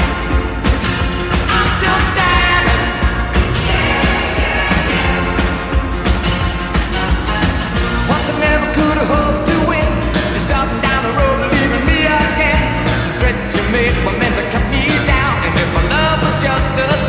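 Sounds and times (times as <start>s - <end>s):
person singing rock song: 0.0s - 17.0s
steady drum beat: 0.0s - 17.0s.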